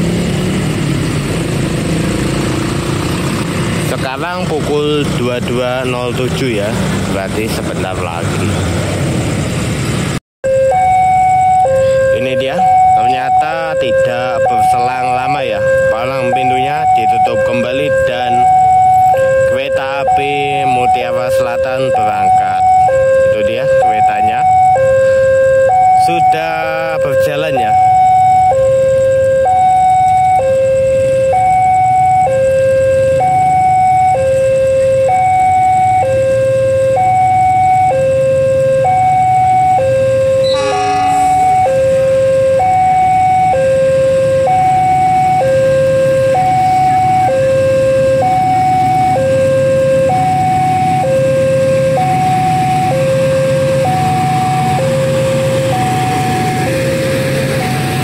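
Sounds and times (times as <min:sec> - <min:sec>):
level crossing alarm tones: 0:10.4 - 0:58.0.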